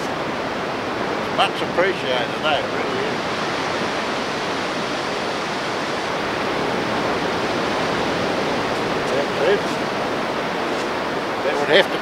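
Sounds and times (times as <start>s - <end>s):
surf breaking on a beach: 0.0s - 12.0s.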